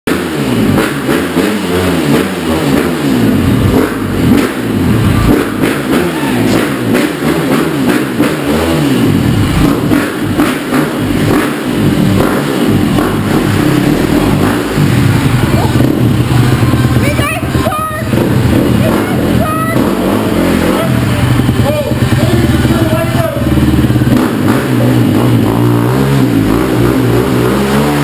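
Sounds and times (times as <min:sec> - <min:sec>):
dirt bike engine revving: 0:00.1 - 0:28.0.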